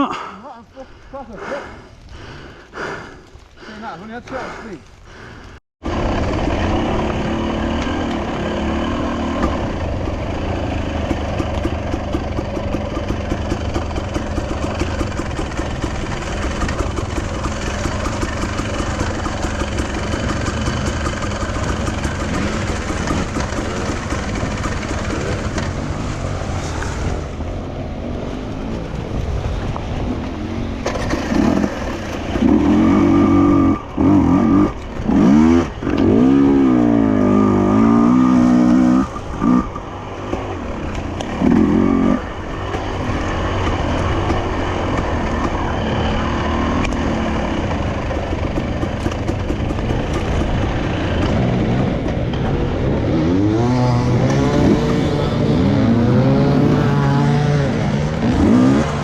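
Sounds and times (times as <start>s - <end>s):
motorcycle engine revving: 5.8s - 29.2s, 29.8s - 59.0s.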